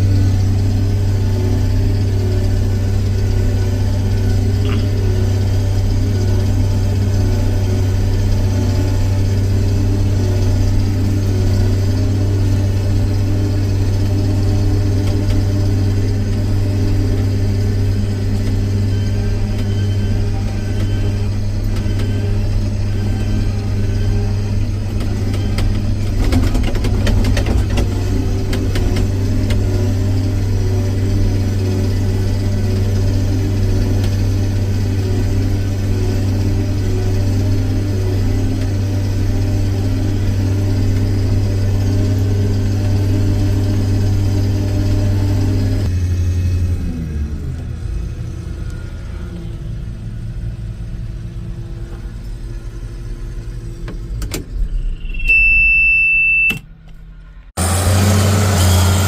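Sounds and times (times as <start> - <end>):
tractor engine humming: 0.0 - 59.0.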